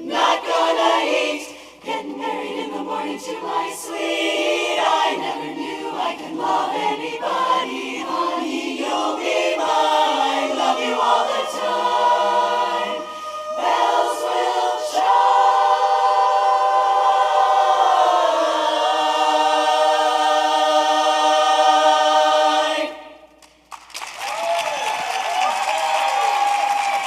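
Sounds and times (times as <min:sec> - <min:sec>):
women's chorus singing a cappella: 0:00.0 - 0:23.3.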